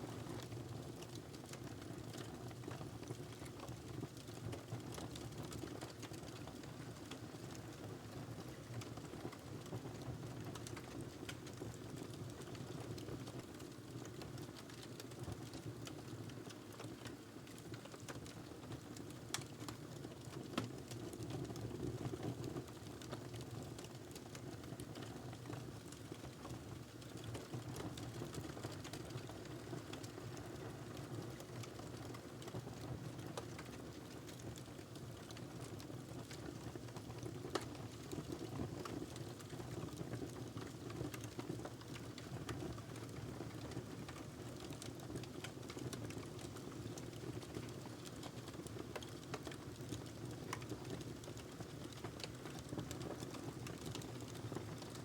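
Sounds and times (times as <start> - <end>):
fire crackling and popping: 1.0 - 7.8, 8.4 - 55.0.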